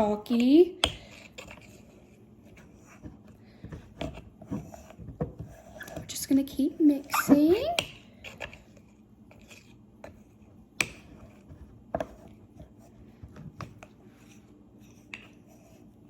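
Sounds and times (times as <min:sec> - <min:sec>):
utensil stirring paste in a bowl: 0:00.0 - 0:16.0.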